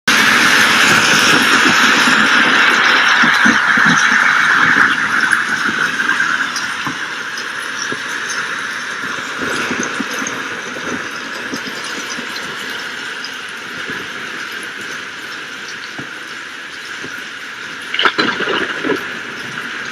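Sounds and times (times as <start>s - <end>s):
storm rain hissing: 0.1s - 19.9s.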